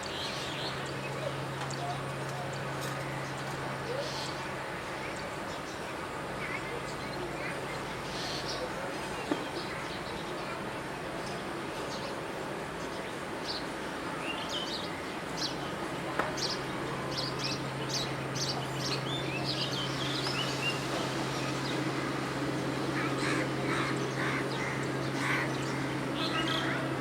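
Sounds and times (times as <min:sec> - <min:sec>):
birds chirping: 0:00.0 - 0:27.0
steady background hum: 0:00.0 - 0:27.0.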